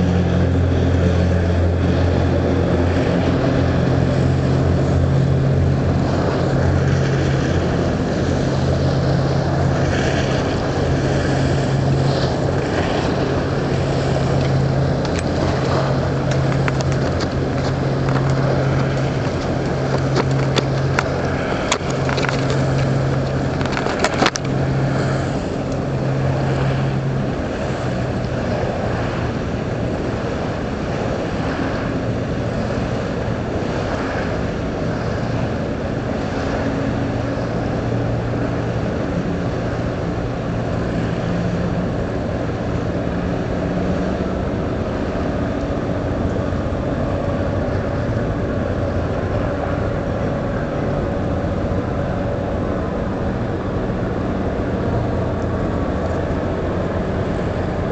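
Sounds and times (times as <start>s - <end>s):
ship machinery drone: 0.0s - 57.9s
water lapping: 0.0s - 57.9s
wind buffeting microphone: 0.0s - 57.9s.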